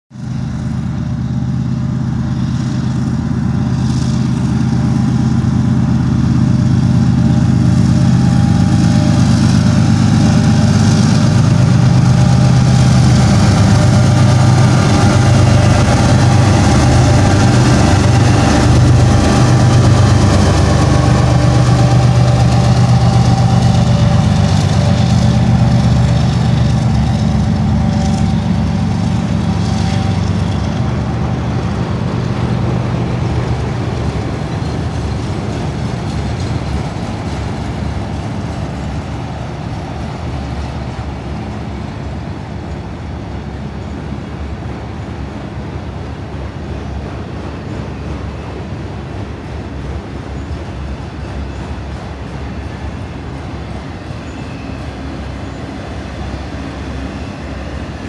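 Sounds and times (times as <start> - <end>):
diesel locomotives passing: 0.1 - 58.0
train cars rolling on rails: 0.1 - 58.0.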